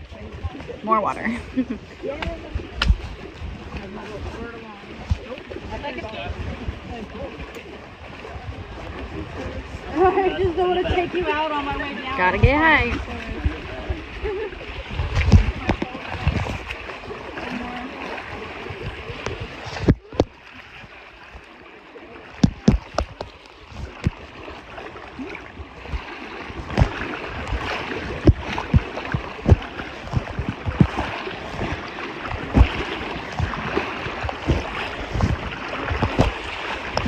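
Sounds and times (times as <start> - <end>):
river water splashing: 0.0 - 37.0.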